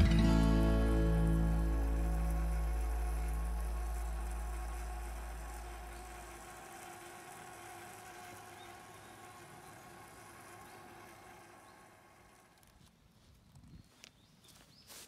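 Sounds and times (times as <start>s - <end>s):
faint steady tones: 0.0s - 13.0s.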